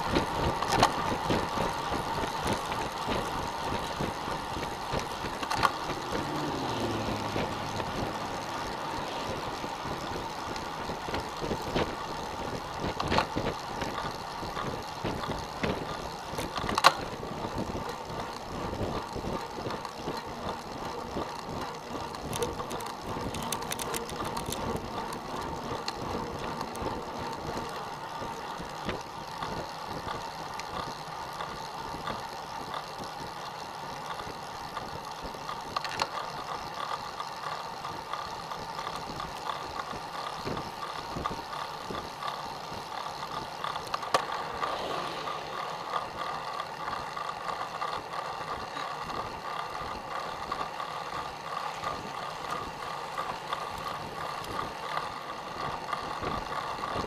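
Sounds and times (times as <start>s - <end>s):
bicycle mechanical rattling: 0.0s - 57.0s
bicycle tyres rolling on asphalt: 0.0s - 57.0s.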